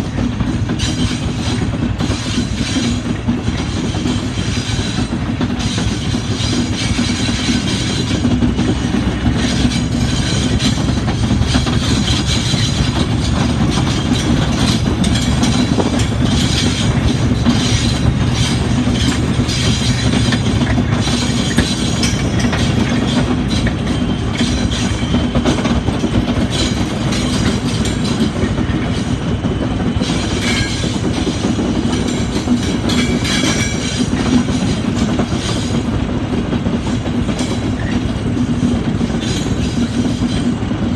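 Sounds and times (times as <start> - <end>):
wheel and rail clatter: 0.0 - 40.9.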